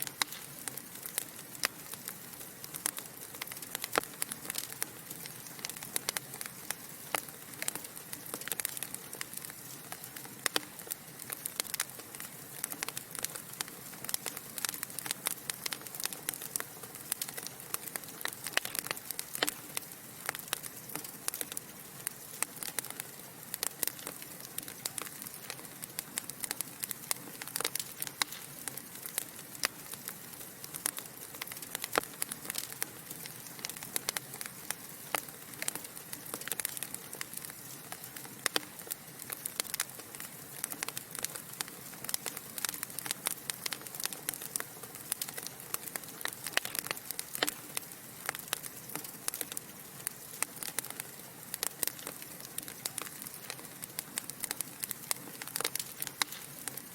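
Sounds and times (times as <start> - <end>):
log fire crackling: 0.0 - 56.9.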